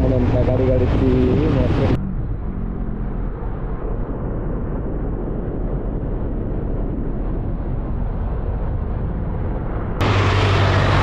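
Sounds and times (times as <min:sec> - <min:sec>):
steady low hum: 0:00.0 - 0:11.0
wind and road noise: 0:00.0 - 0:11.0.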